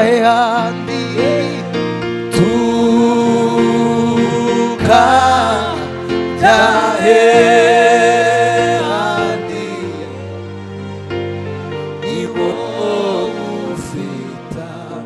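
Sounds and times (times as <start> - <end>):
held instrumental chords: 0.1 - 15.0.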